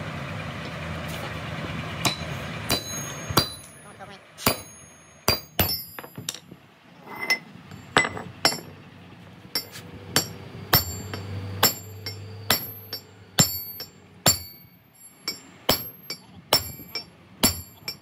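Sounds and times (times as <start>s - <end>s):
hammer striking steel: 2.0s - 6.4s, 7.2s - 8.8s, 9.5s - 18.0s.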